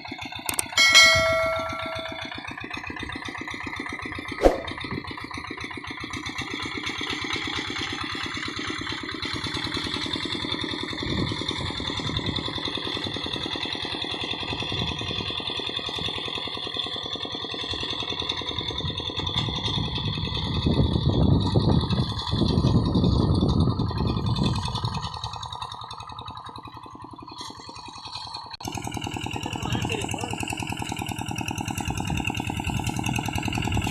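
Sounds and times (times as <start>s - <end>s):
diesel engine running steadily: 0.0s - 33.9s.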